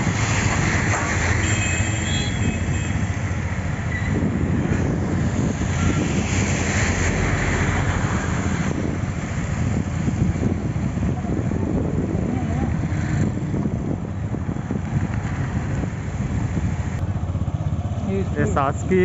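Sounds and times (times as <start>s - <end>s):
road traffic: 0.0s - 19.0s
wind rumble on microphone: 0.0s - 19.0s.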